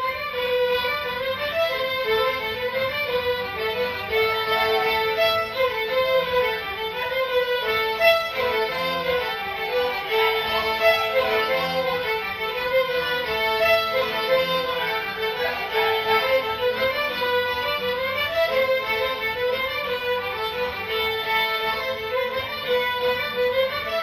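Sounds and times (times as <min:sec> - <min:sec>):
folk dance band music: 0:00.0 - 0:24.0.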